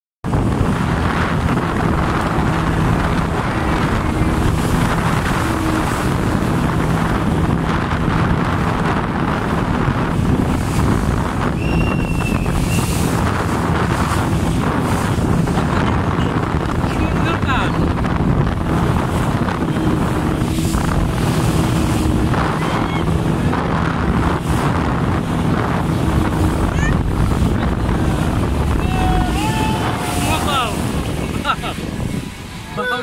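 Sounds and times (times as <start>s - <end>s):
speedboat motor droning: 0.2s - 33.0s
water rushing past hull: 0.2s - 33.0s
wind buffeting microphone: 0.2s - 33.0s.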